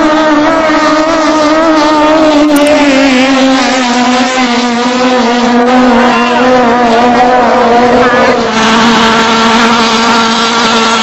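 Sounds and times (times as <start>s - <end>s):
boat engines droning high-pitched: 0.0s - 11.0s.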